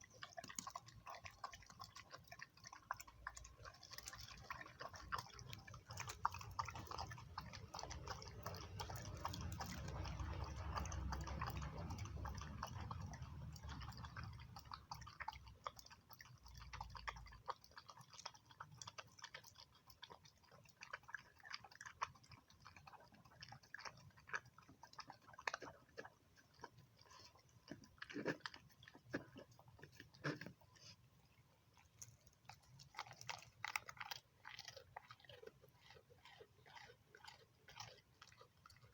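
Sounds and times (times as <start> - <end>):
dog chewing food: 0.0 - 38.9.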